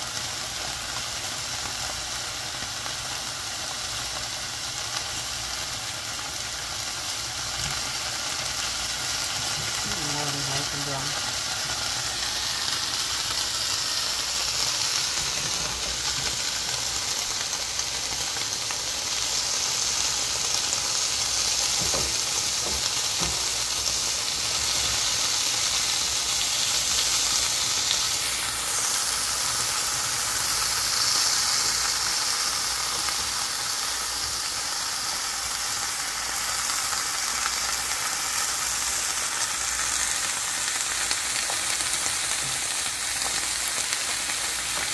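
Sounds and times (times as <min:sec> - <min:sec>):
cheese cubes sizzling in oil: 0:00.0 - 0:44.9.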